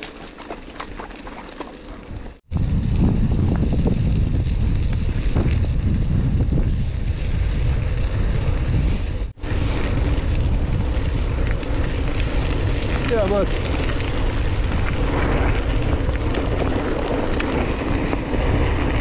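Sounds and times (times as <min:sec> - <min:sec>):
wind buffeting microphone: 0:02.0 - 0:19.0.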